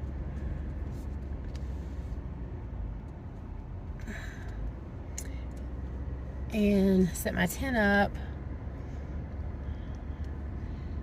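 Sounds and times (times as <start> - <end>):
car engine rumble: 0.0 - 11.0
road noise inside cabin: 0.0 - 11.0.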